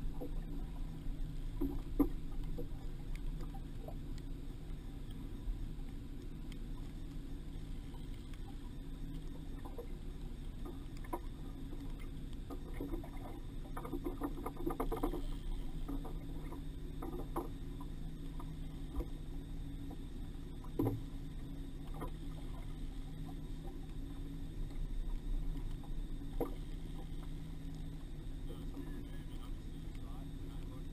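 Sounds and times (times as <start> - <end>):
steady low hum: 0.0 - 30.9
water slapping boat hull: 0.0 - 30.9.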